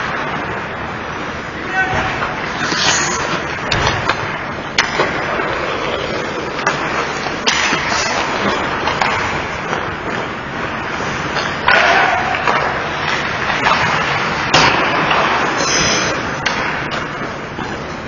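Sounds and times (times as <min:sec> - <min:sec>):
skates scraping on ice: 0:00.0 - 0:18.0.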